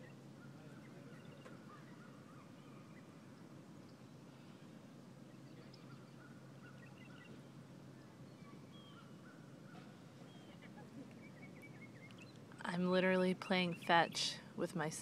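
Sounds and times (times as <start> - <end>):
distant bird calls: 0.0 - 15.0
low steady background hum: 0.0 - 15.0.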